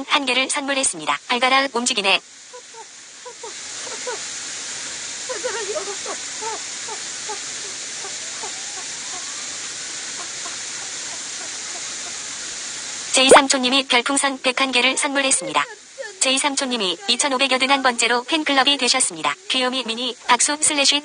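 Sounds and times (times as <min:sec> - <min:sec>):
stream running water: 0:00.0 - 0:21.0.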